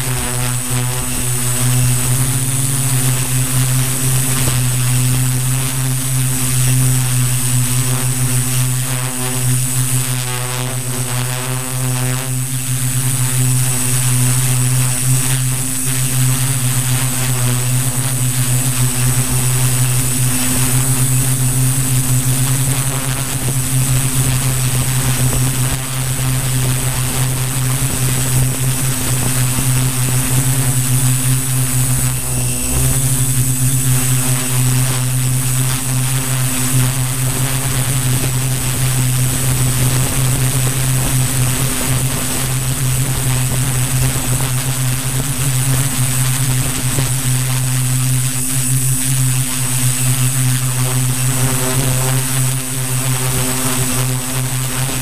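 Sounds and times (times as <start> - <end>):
drone motors humming and whining: 0.0 - 55.0.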